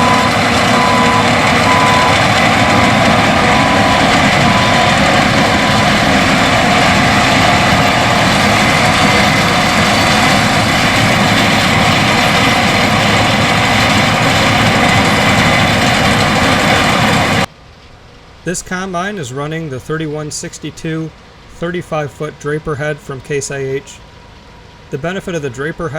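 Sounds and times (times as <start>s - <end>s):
combine harvester running: 0.0s - 25.9s.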